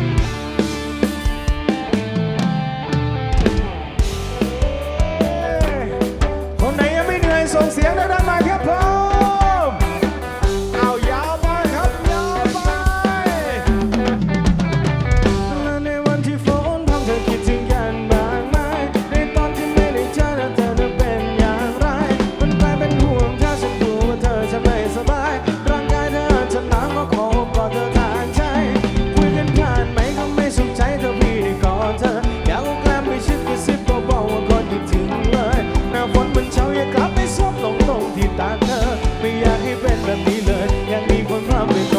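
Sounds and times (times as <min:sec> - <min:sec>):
drum kit steady beat: 0:00.0 - 0:41.9
lead line with bending notes: 0:00.0 - 0:41.9.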